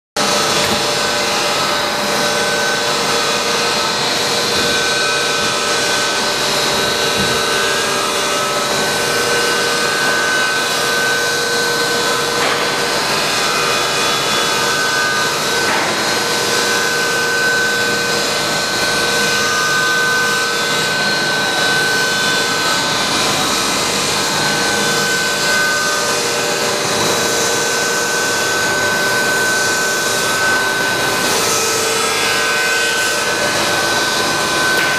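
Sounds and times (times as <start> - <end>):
high mechanical whine: 0.2 - 34.9.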